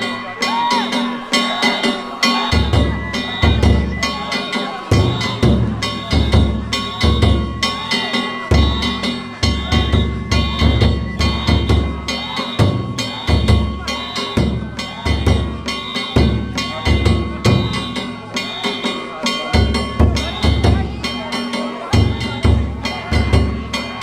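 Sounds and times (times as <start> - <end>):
hand gongs ringing: 0.0 - 24.0
taiko drums beating: 0.0 - 24.0.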